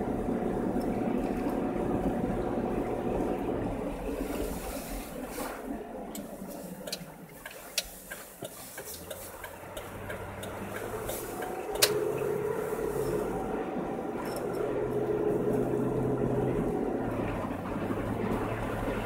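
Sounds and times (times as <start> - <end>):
low engine hum: 0.0 - 19.0
tyre noise through slush: 1.0 - 19.0.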